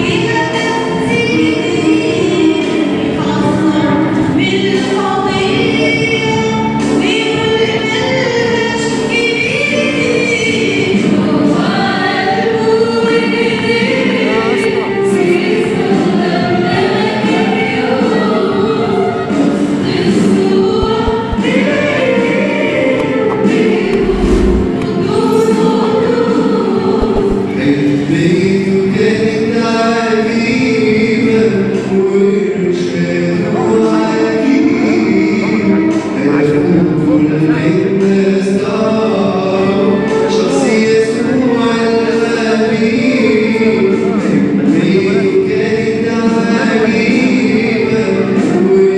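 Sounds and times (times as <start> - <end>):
mixed choir singing a hymn: 0.0 - 48.9.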